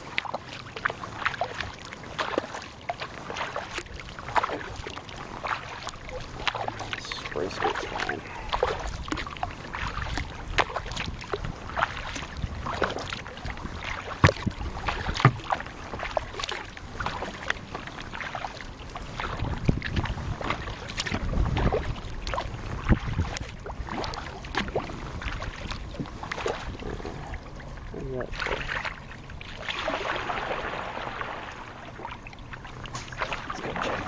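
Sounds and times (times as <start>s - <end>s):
paddle splashing in water: 0.0s - 34.0s.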